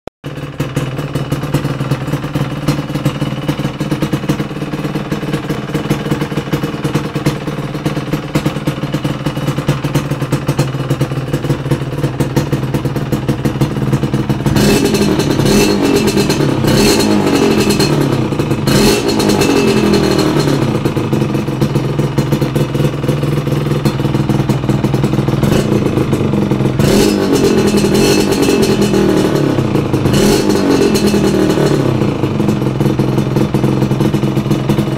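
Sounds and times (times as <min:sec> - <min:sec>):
two-stroke motorcycle engine revving: 0:00.3 - 0:34.9.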